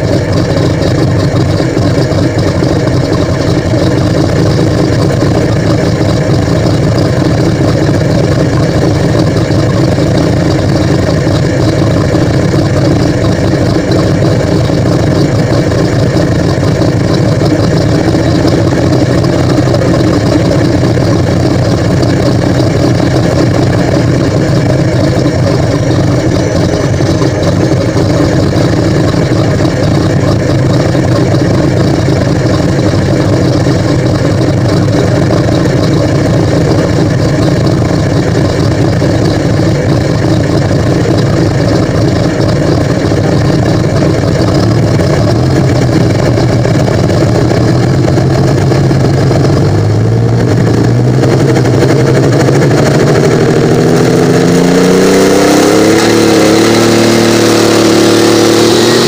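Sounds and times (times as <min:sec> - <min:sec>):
engine fast idle and revving: 0:00.0 - 0:59.0.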